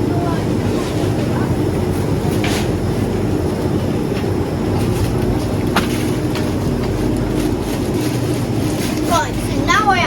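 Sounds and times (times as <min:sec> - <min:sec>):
low mechanical rumble with hum: 0:00.0 - 0:10.0.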